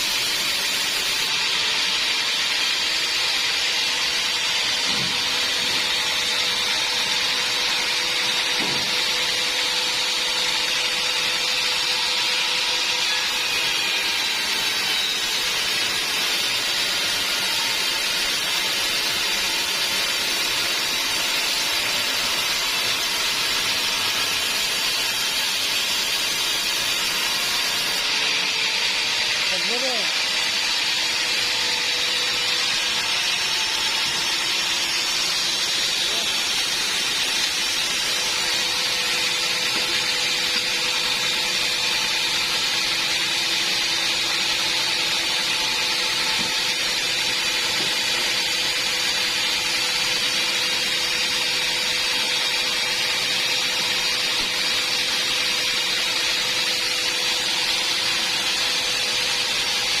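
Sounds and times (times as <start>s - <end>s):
band sawmill running: 0.0s - 60.0s.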